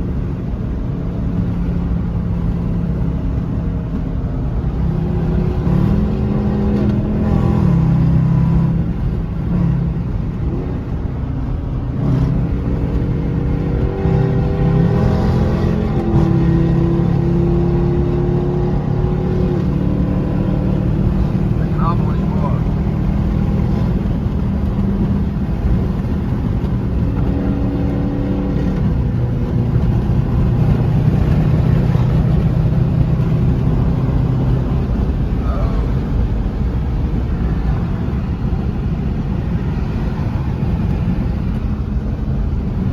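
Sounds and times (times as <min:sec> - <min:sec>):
car engine at highway speed: 0:00.0 - 0:42.9.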